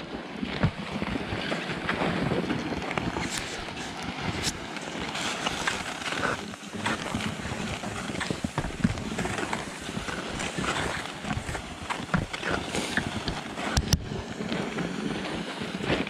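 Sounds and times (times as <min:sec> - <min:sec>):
wind rumbling on microphone: 0:00.0 - 0:16.0
skis sliding over snow: 0:00.1 - 0:16.0.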